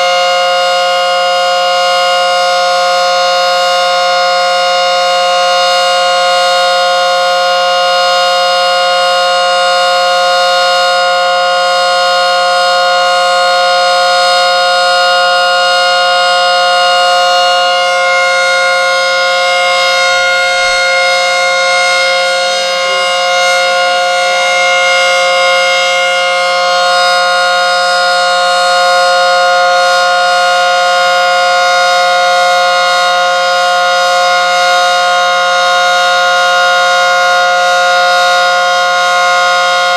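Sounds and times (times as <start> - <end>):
siren holding two steady tones: 0.0 - 39.9.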